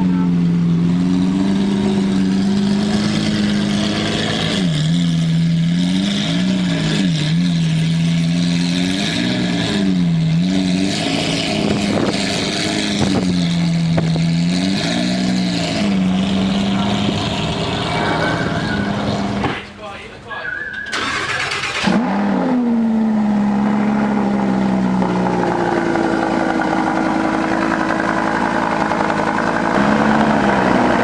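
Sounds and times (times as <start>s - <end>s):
car engine running: 0.0s - 19.6s, 21.2s - 31.0s.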